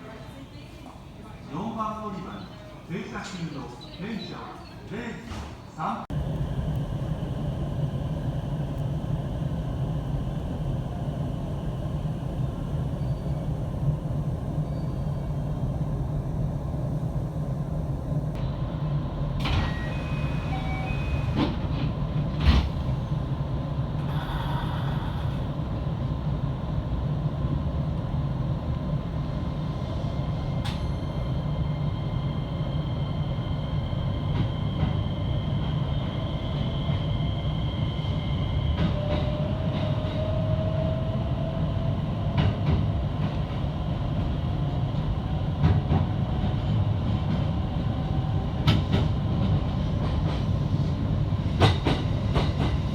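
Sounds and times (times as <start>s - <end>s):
train wheels rumbling on rail: 5.2s - 52.9s.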